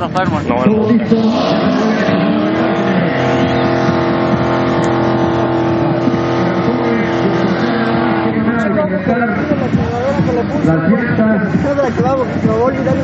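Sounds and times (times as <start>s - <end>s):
car engine revving high: 0.3s - 13.0s.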